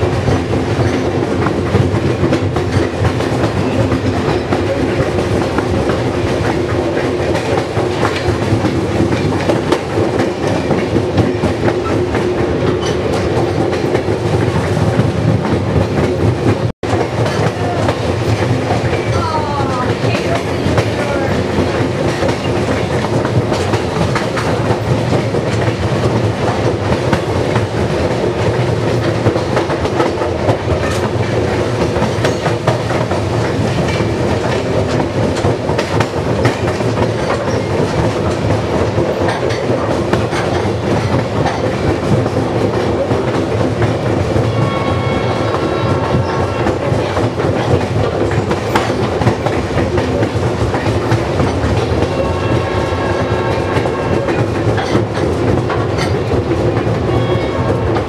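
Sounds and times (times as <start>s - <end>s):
wheels clicking over rail joints: 0.0s - 52.7s, 53.4s - 58.0s
train rumbling: 0.0s - 58.0s.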